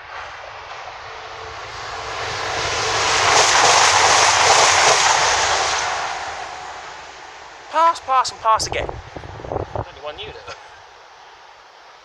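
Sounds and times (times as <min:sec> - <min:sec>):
train passing at speed: 0:00.0 - 0:11.9.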